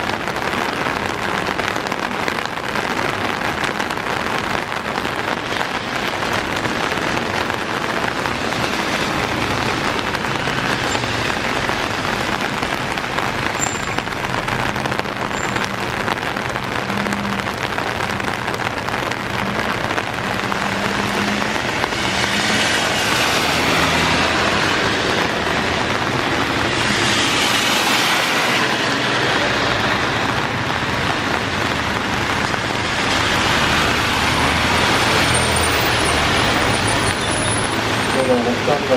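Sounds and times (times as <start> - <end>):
car tyres hissing on wet road: 0.0 - 38.9
heavy rain: 0.0 - 38.9.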